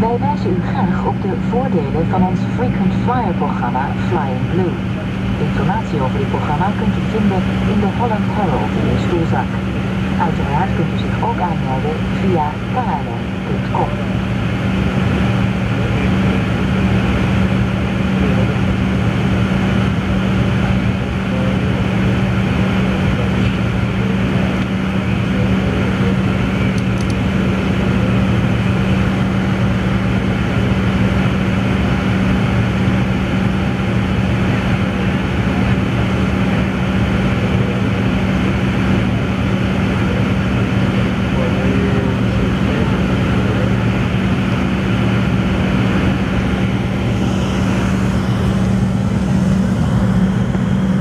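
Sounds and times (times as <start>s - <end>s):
jet engines and rushing air: 0.0s - 51.0s
low hum: 0.0s - 51.0s.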